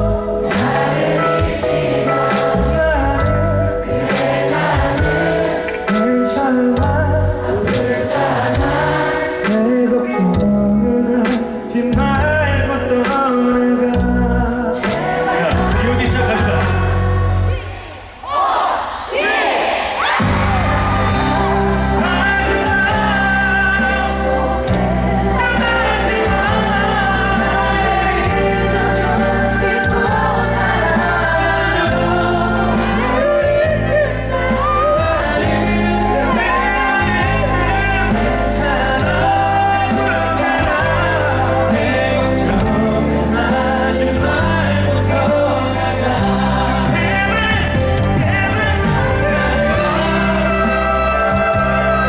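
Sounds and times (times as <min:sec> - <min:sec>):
band playing: 0:00.0 - 0:18.0, 0:20.0 - 0:52.0
loud singing voices: 0:00.0 - 0:52.0.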